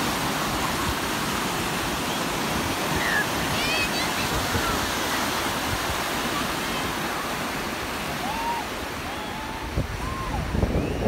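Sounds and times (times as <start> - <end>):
ocean waves breaking on beach: 0.0 - 11.0.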